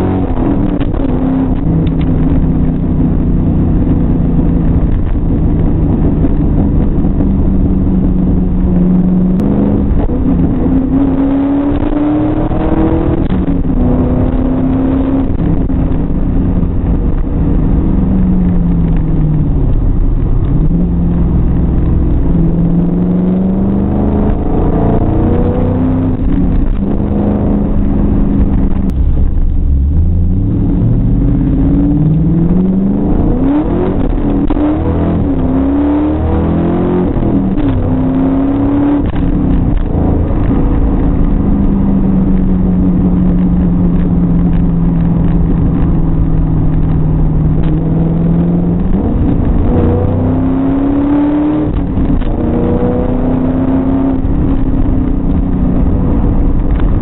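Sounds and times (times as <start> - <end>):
car engine accelerating: 0.0 - 57.0
road rumble: 0.0 - 57.0.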